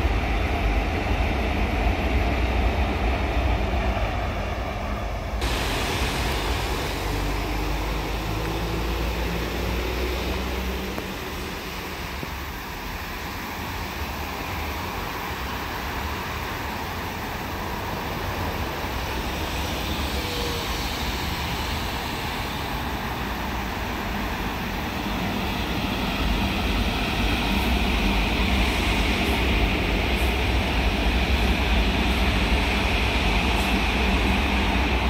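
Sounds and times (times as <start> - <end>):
electric train approaching: 0.0 - 35.0
road traffic hum: 5.4 - 35.0.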